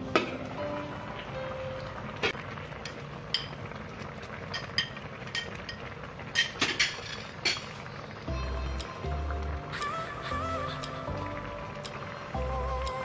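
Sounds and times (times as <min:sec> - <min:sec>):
fish simmering in a pan: 0:00.0 - 0:13.0.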